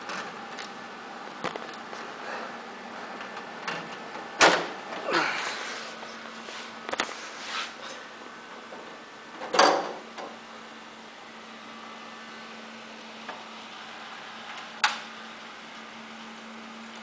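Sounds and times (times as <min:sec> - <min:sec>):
computer fans humming: 0:00.0 - 0:17.0.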